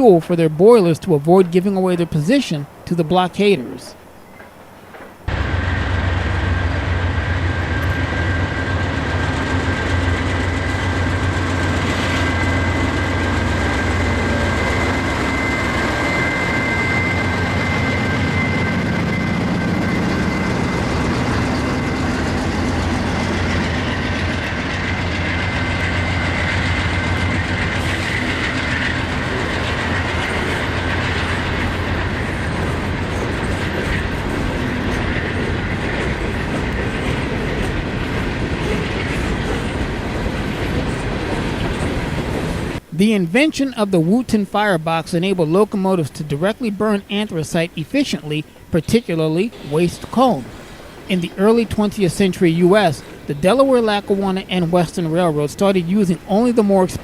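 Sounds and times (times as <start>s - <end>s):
train wheels rumbling on rail: 4.3s - 42.9s, 49.5s - 57.0s.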